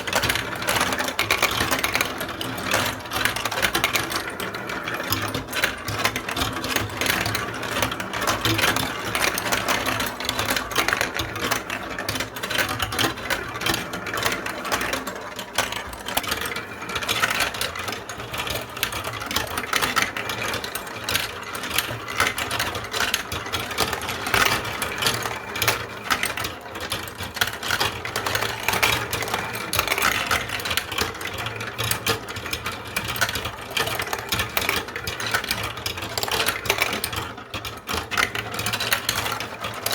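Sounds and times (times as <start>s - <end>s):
marbles rattling down a track: 0.0s - 39.9s.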